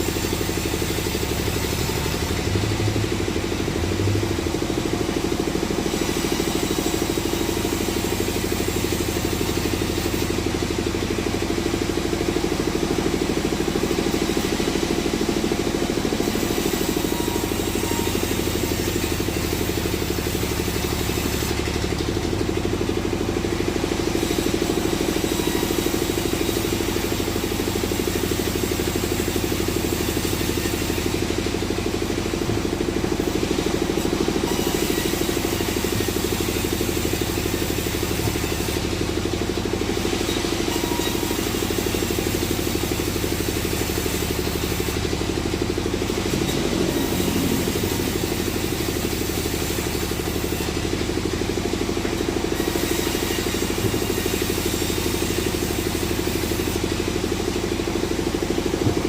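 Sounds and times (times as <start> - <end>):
engine chugging steadily: 0.0 - 59.0.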